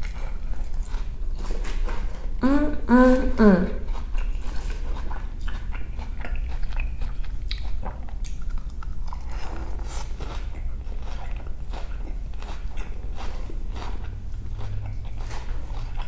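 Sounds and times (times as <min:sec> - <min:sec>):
chewing crisp lettuce: 0:00.0 - 0:16.0.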